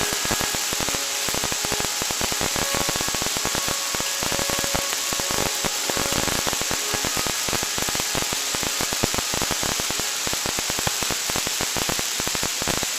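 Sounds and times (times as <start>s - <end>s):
faint steady tones: 0.0s - 12.9s
radio static crackling hiss: 0.0s - 12.9s.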